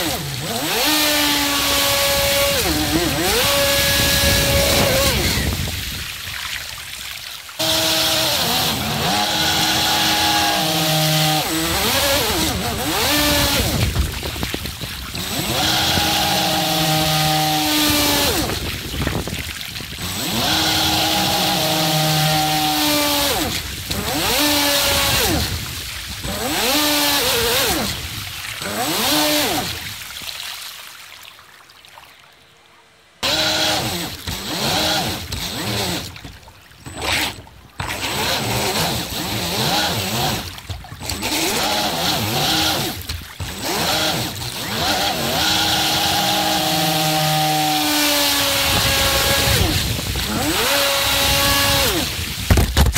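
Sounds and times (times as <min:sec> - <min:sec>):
electric motor and propeller whining: 0:00.0 - 0:30.0, 0:33.2 - 0:52.9
water hissing along hull: 0:00.0 - 0:30.3, 0:38.0 - 0:52.6.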